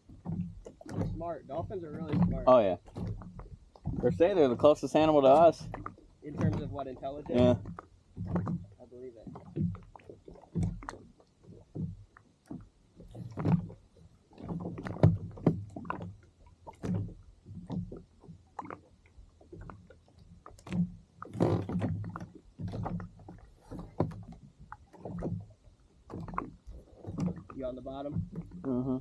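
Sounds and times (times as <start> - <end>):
waves slapping against plastic hull: 0.0 - 29.0.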